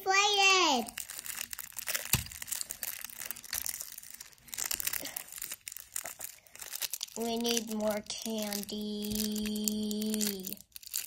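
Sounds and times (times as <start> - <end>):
plastic wrapper crinkling: 0.1 - 11.0.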